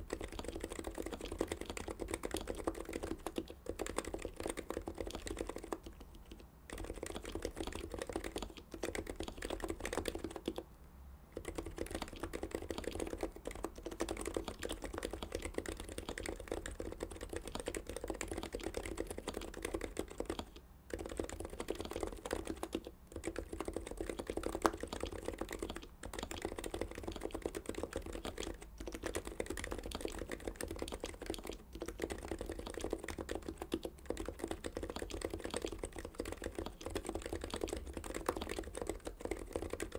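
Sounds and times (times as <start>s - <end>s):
fast keyboard typing: 0.0s - 10.6s, 11.4s - 39.9s.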